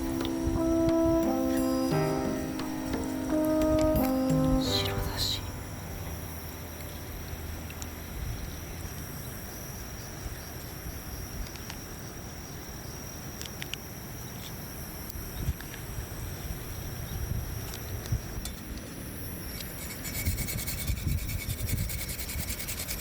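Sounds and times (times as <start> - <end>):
high insect trill: 0.0 - 23.0
low background hum: 0.0 - 23.0.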